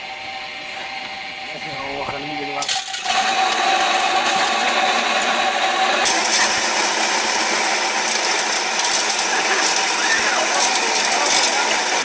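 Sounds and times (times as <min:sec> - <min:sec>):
electric corn mill grinding: 0:00.0 - 0:12.0.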